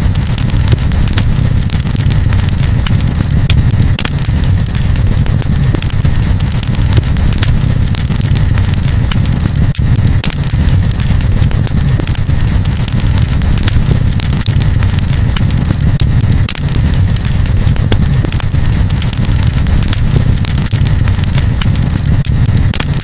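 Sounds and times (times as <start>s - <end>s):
campfire crackling: 0.0s - 23.0s
deep fire rumble: 0.0s - 23.0s.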